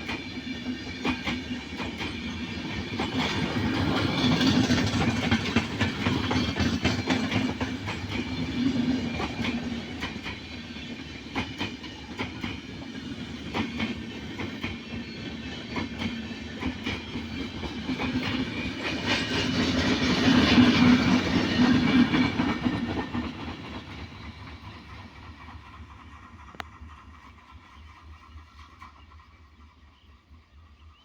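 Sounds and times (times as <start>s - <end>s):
train wheels clattering over rail joints: 0.0s - 28.0s.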